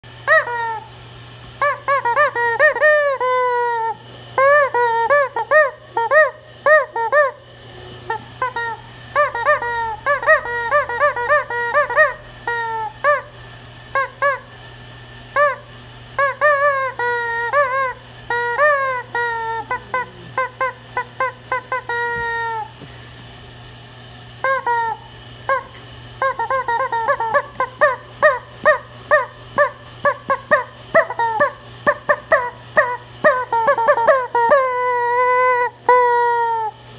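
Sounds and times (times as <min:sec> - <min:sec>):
rubber chicken toy squawking: 0:00.2 - 0:00.9, 0:01.6 - 0:07.5, 0:08.1 - 0:14.5, 0:15.4 - 0:22.8, 0:24.4 - 0:36.8.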